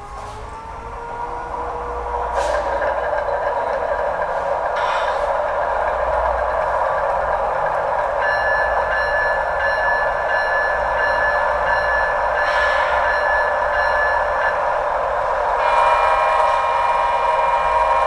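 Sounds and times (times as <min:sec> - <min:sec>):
model diesel locomotive sound: 0:00.0 - 0:18.0.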